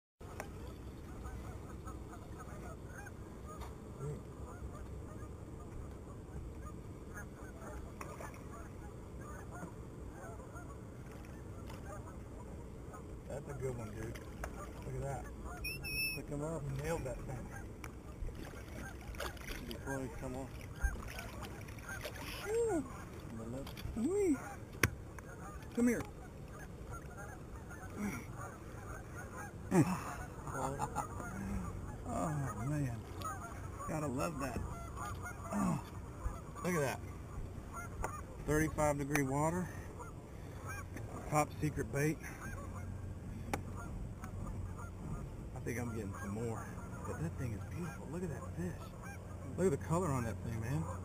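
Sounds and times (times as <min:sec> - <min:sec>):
geese honking: 0:00.2 - 0:51.0
steady low rumble: 0:00.2 - 0:51.0
sharply falling goose cry: 0:00.3 - 0:51.0.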